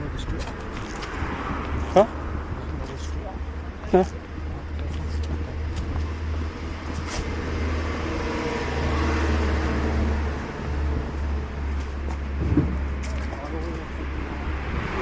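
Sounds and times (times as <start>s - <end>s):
motor vehicle noise: 0.0s - 15.0s
road traffic rumble: 0.0s - 15.0s.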